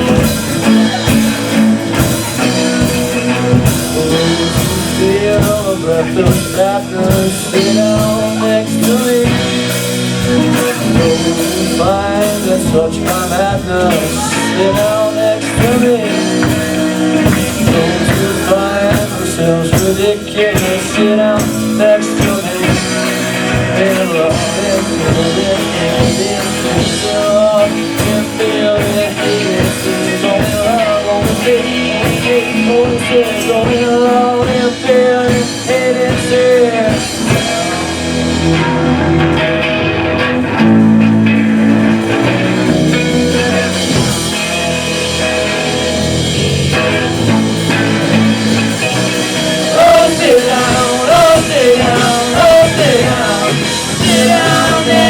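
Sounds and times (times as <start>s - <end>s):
drum kit: 0.0s - 55.0s
electric guitars: 0.0s - 55.0s.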